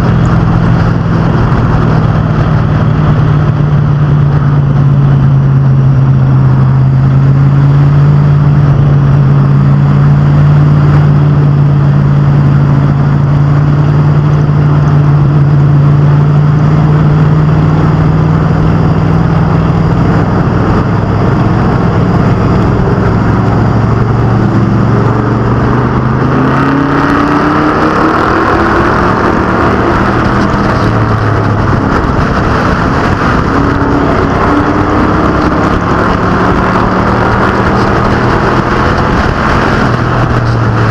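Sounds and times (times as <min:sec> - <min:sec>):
engines revving up: 0:00.0 - 0:40.9
race car engines droning: 0:00.0 - 0:40.9.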